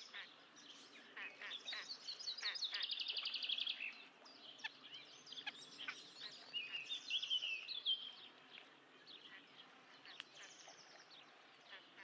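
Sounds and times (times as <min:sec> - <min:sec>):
faint outdoor background noise: 0:00.0 - 0:12.0
songbirds chirping and warbling: 0:00.0 - 0:12.0.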